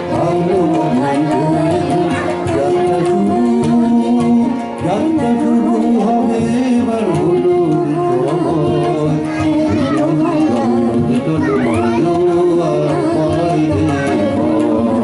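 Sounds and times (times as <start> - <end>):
person singing: 0.0 - 15.0
tabla drumming: 0.0 - 15.0.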